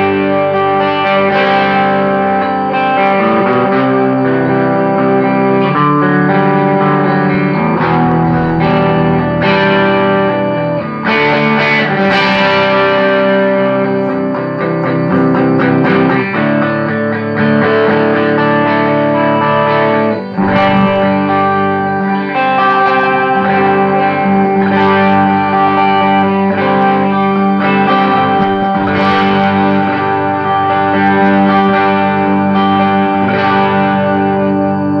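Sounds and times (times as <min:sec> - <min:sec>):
electric guitar chords: 0:00.0 - 0:35.0.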